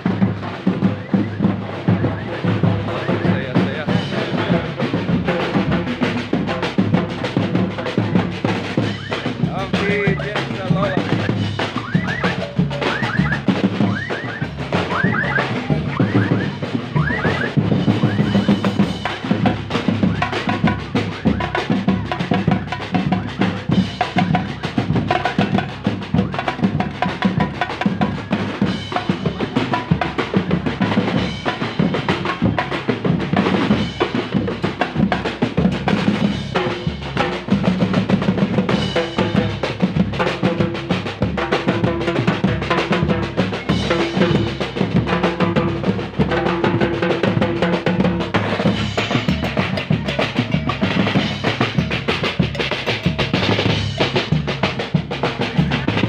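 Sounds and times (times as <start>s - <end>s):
marching drumline cadence: 0.0s - 56.0s.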